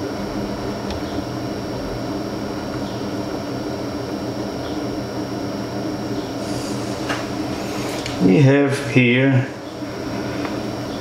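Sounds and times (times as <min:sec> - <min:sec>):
electrical hum and hiss: 0:00.0 - 0:11.0
high-pitched whine: 0:00.0 - 0:11.0.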